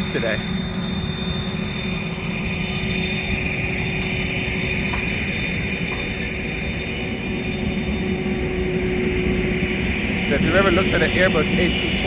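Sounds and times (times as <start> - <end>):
aircraft turbine whine: 0.0 - 12.0.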